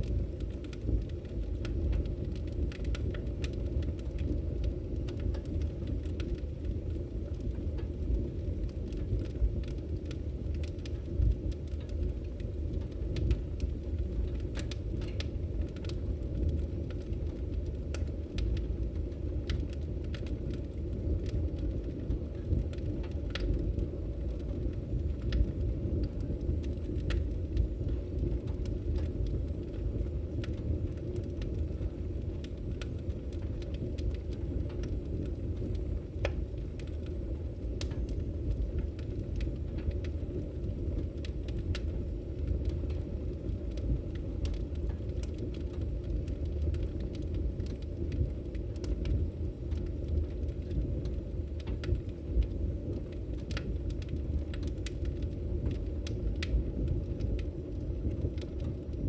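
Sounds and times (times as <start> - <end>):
fire crackling and popping: 0.0 - 59.0
fire rumbling: 0.0 - 59.0.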